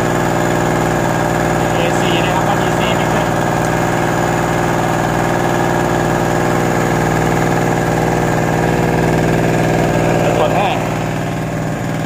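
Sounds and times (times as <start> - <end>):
portable generator running: 0.0 - 12.0.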